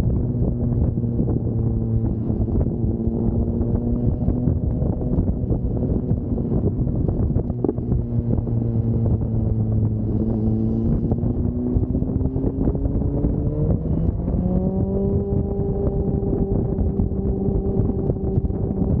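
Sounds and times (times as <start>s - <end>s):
motorcycle engine running: 0.0s - 19.0s
wind on microphone: 0.0s - 19.0s.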